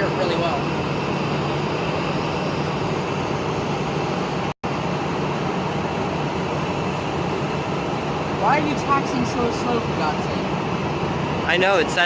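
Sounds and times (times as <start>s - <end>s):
airport traffic noise: 0.0s - 12.0s
road traffic: 0.0s - 12.0s.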